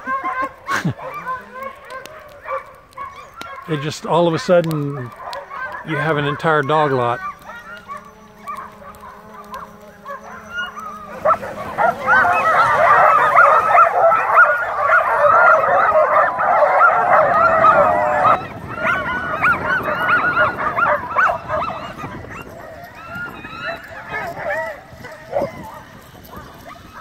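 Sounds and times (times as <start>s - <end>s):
sled dogs barking and yipping: 0.0s - 27.0s.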